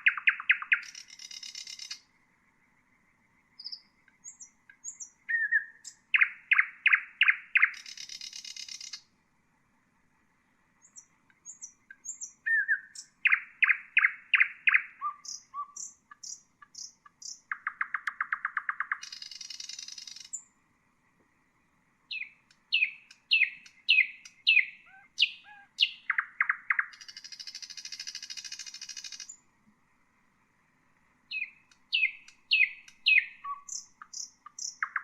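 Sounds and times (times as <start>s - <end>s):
nightingale singing: 0.0s - 9.2s, 10.4s - 20.6s, 22.0s - 29.5s, 31.2s - 35.0s.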